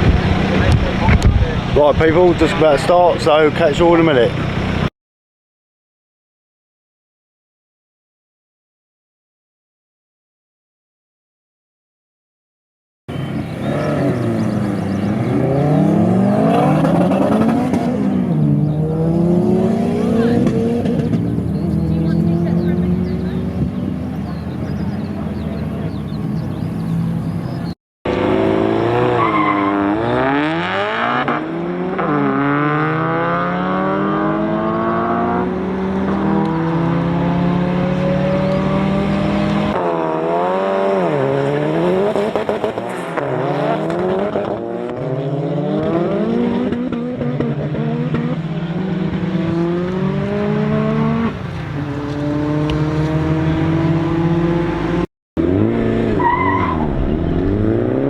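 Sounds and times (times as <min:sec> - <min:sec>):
car engine accelerating hard: 0:00.0 - 0:04.9, 0:13.1 - 0:58.0.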